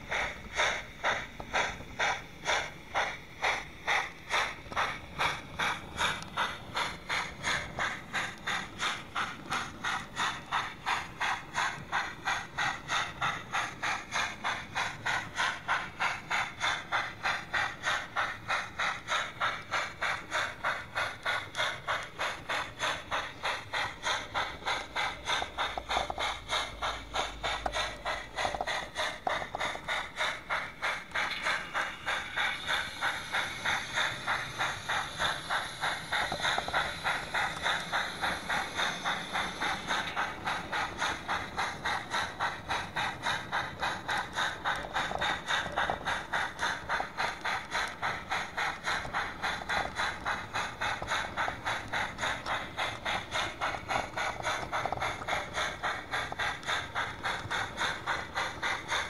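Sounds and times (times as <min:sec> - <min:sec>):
model train clicking on track: 0:00.0 - 0:59.0.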